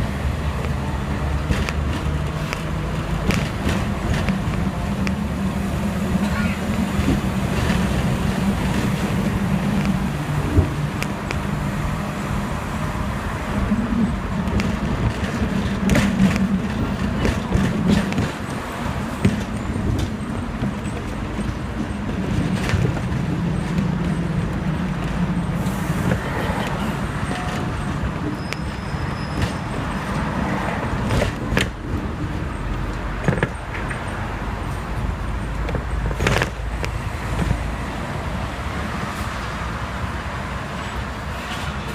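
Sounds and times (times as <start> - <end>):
road traffic: 0.0 - 41.9
tram motor hum: 0.0 - 41.9.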